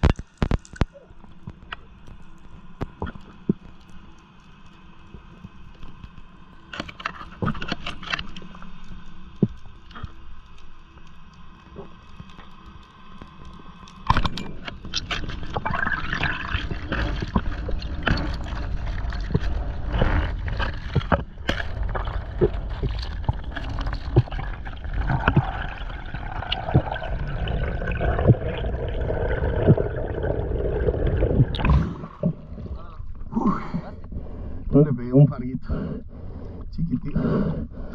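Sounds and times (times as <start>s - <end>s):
underwater gurgling and rushing: 0.0s - 37.9s.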